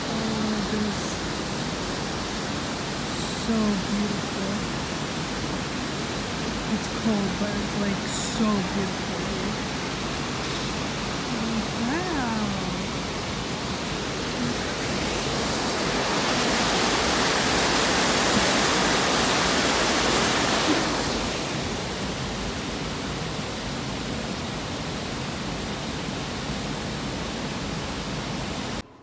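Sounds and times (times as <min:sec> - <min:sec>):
creek water rushing: 0:00.0 - 0:28.9.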